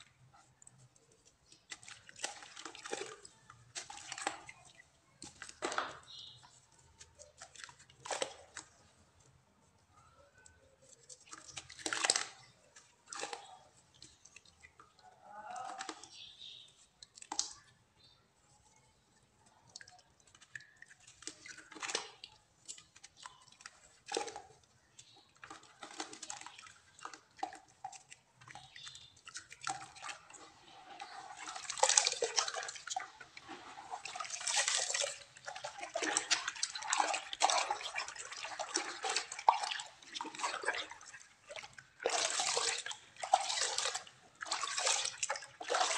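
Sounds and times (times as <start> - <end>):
muddy water sloshing and splashing: 0.0 - 9.2, 10.8 - 17.6, 19.2 - 45.9
wet clay crumbling and squelching: 0.0 - 18.2, 18.9 - 45.9.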